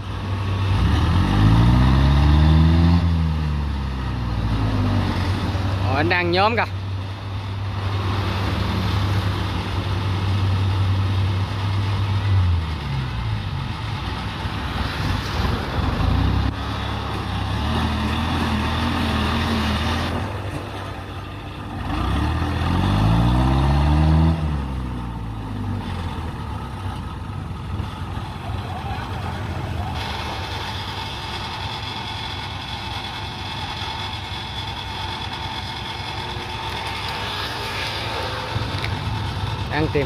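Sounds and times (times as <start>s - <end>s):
diesel engine revving: 0.0s - 40.0s.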